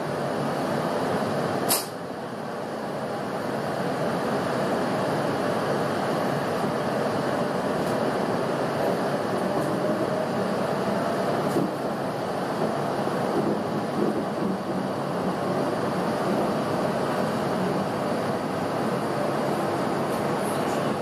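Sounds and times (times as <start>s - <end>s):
train rumble and rail noise: 0.0s - 21.0s.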